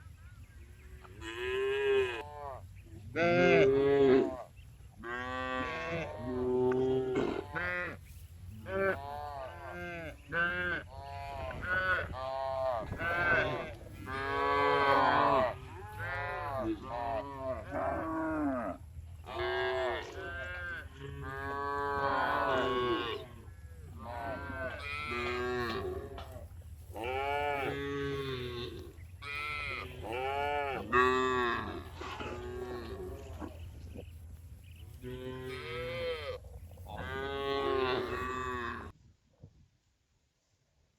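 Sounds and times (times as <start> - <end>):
cows mooing: 1.1 - 8.0, 8.6 - 33.7, 35.0 - 38.9.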